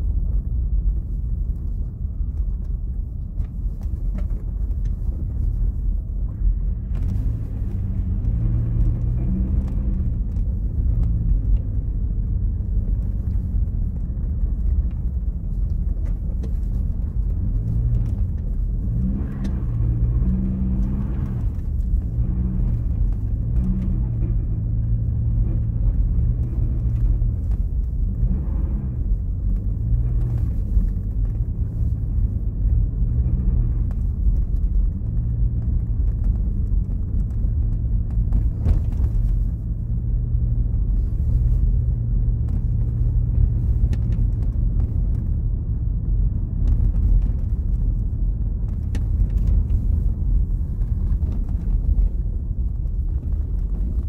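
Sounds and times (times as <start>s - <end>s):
car engine hum inside cabin: 0.0s - 54.0s
road noise: 0.0s - 54.0s.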